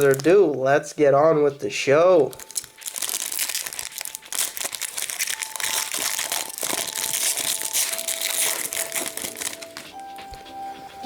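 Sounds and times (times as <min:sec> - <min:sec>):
wrapper crinkling: 0:00.0 - 0:00.6, 0:02.2 - 0:10.4.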